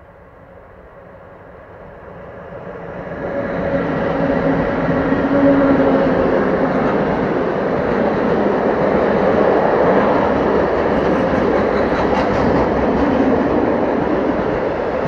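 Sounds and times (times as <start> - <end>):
electric locomotive hum: 0.0 - 15.0.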